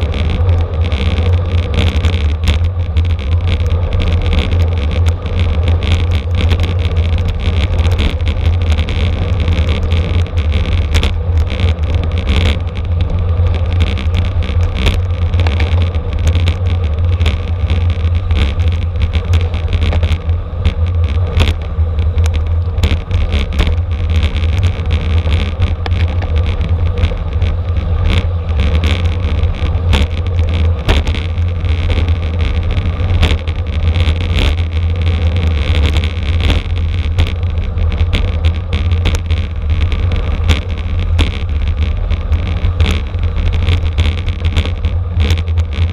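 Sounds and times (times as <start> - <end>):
bike clicks and rattles: 0.0 - 45.9
wind rushing over microphone: 0.0 - 45.9.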